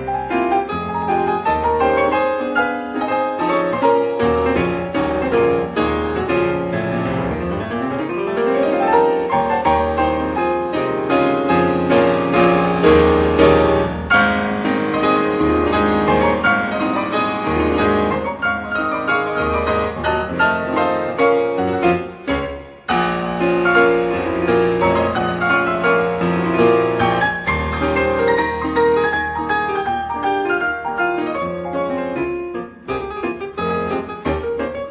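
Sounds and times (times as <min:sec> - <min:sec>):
classical piano music: 0:00.0 - 0:34.9.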